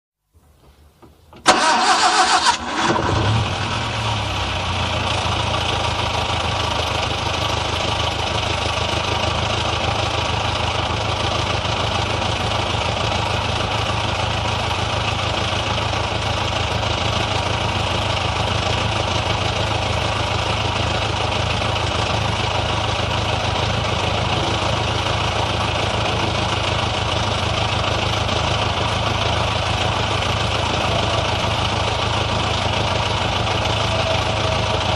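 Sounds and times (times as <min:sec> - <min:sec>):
car engine starting and idling: 0:01.0 - 0:34.9.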